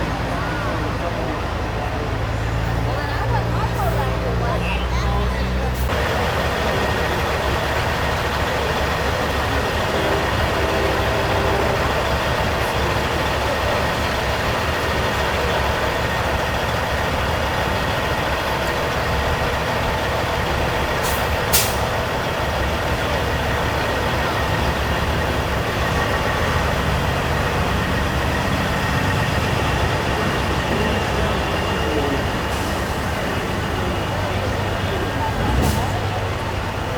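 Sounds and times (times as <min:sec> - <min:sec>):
truck engines rumbling: 0:00.0 - 0:36.9.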